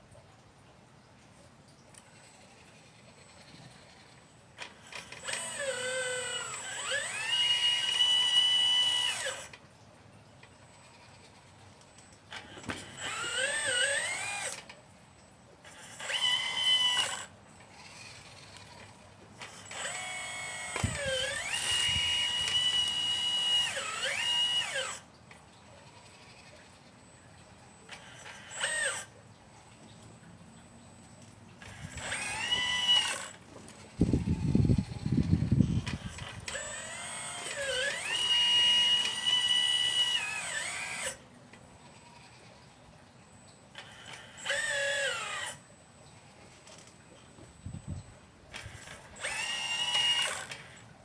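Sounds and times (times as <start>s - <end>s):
model excavator electric drive whining: 2.0s - 9.6s, 10.4s - 51.0s.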